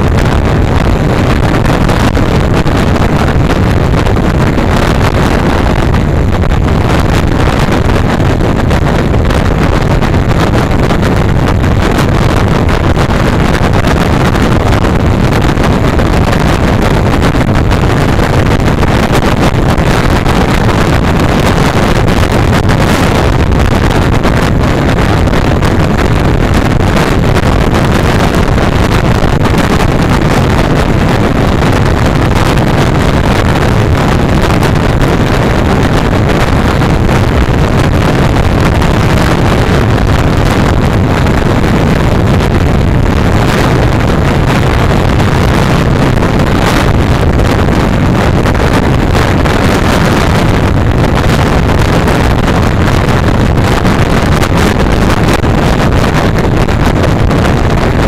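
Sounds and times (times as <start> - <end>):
motorcycle engine and road noise: 0.0 - 58.0
wind rush on microphone: 0.0 - 58.0.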